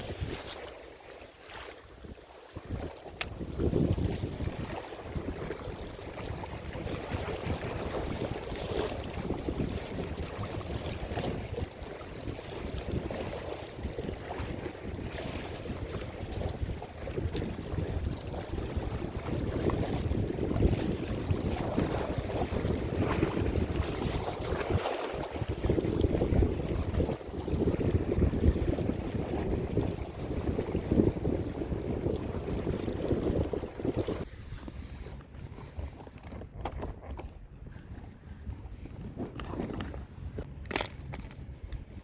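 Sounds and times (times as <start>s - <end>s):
wind buffeting microphone: 0.0s - 0.7s, 1.8s - 42.0s.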